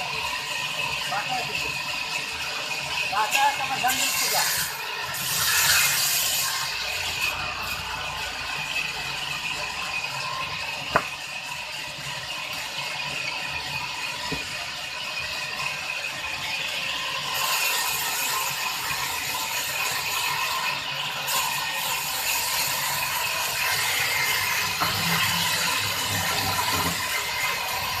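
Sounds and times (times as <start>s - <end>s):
band saw cutting timber: 0.0s - 28.0s.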